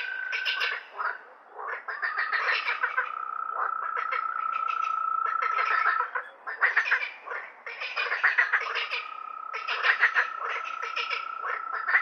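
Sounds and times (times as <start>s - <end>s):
frogs croaking: 0.0s - 12.0s.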